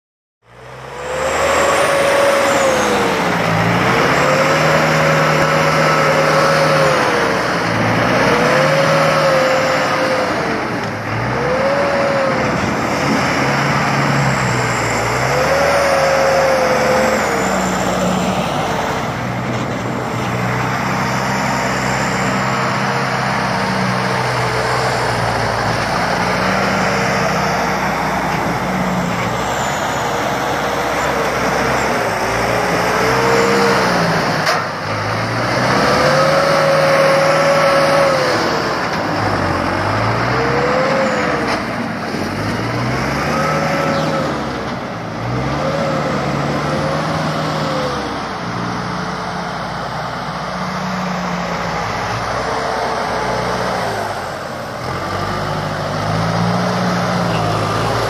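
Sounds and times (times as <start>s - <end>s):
tractor diesel engine revving: 0.5s - 58.0s.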